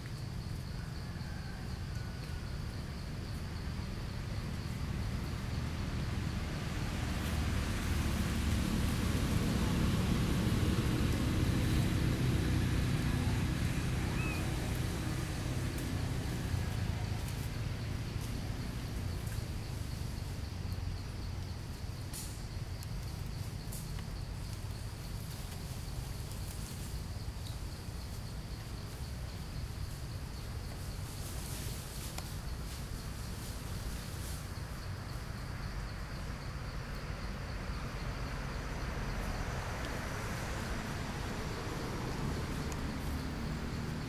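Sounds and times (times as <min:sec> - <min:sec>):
faint insect drone: 0:00.0 - 0:44.0
low outdoor rumble: 0:00.0 - 0:44.0.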